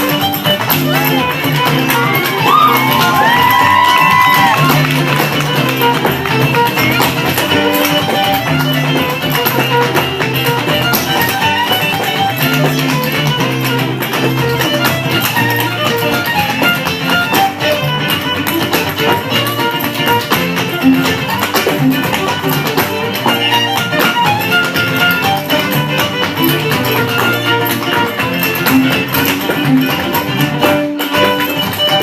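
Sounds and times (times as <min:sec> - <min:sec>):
fiddle: 0:00.0 - 0:32.0
guitar: 0:00.0 - 0:32.0
live band music: 0:00.0 - 0:32.0.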